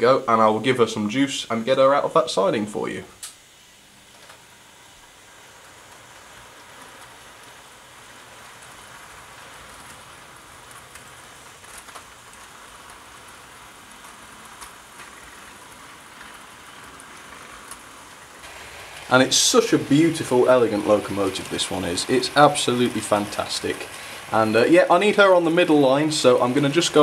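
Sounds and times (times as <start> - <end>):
model train motor whirring: 3.2 - 27.0.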